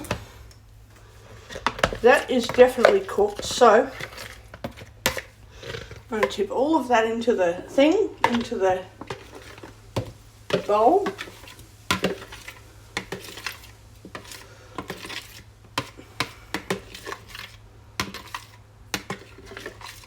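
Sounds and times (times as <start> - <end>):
spoon scraping container and bowl: 1.2 - 6.5, 7.6 - 20.0.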